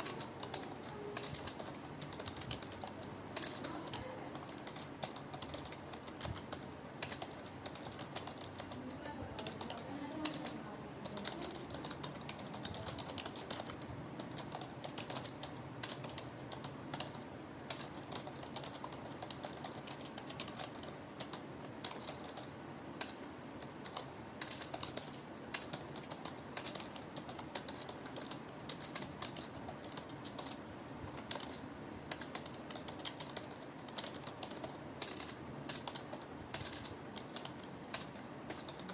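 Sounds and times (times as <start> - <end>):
computer keyboard typing: 0.0 - 38.9.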